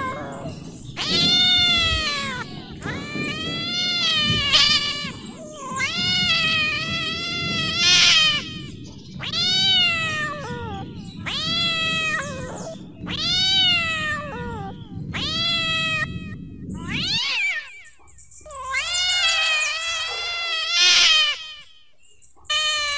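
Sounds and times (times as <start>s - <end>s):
cat yowling: 0.0s - 21.9s, 22.5s - 22.9s.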